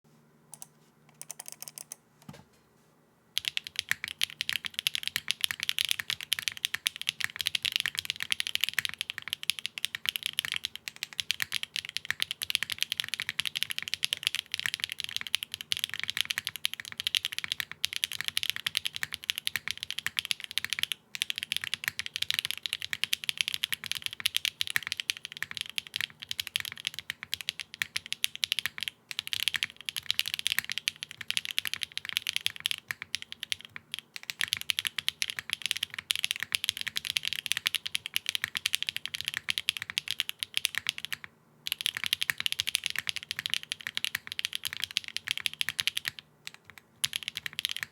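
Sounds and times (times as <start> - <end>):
mechanical keyboard typing: 0.5 - 2.0, 3.4 - 47.9.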